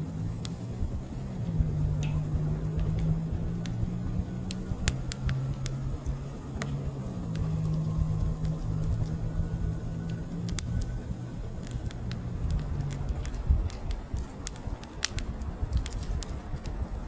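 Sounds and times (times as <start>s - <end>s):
fire crackling and popping: 0.0s - 17.0s
low rumble: 0.0s - 17.0s.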